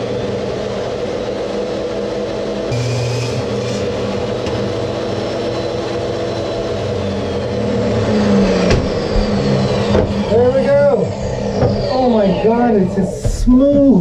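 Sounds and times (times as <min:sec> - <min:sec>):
table saw cutting plastic: 0:00.3 - 0:14.0.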